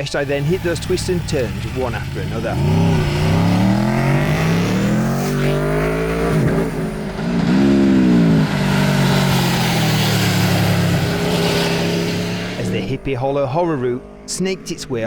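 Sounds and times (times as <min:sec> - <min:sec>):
motorcycle engine revving: 0:00.0 - 0:13.2.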